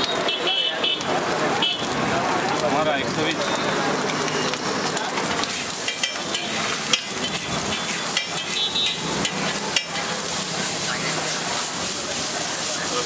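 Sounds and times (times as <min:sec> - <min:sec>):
fat sizzling on griddle: 0:00.0 - 0:13.0.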